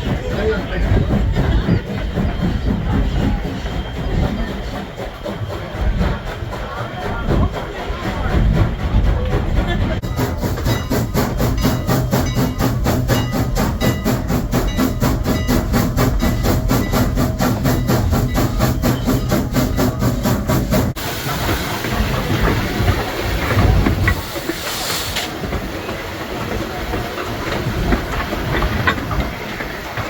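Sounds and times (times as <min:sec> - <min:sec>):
steam locomotive exhaust chuffing: 0:00.0 - 0:30.0
train rolling on rails: 0:00.0 - 0:30.0.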